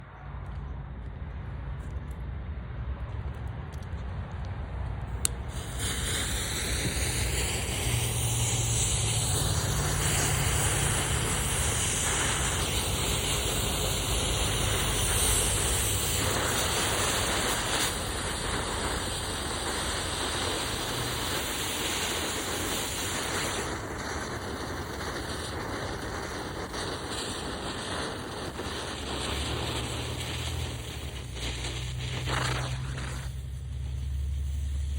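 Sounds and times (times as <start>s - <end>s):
fuse burning with a hiss: 5.0s - 34.9s.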